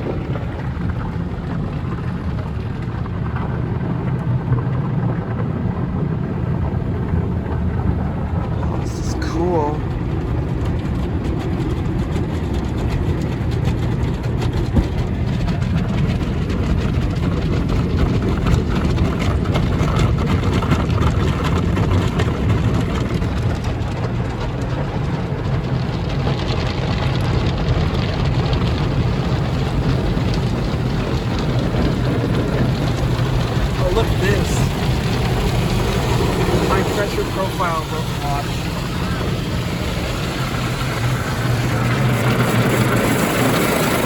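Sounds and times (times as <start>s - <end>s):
car wash equipment rumble and hiss: 0.0s - 44.0s.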